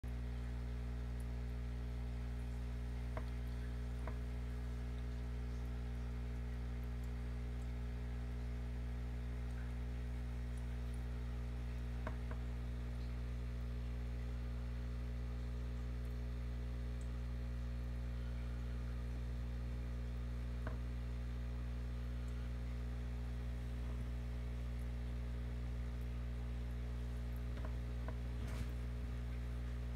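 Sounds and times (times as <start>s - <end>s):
low electrical hum: 0.0s - 29.9s.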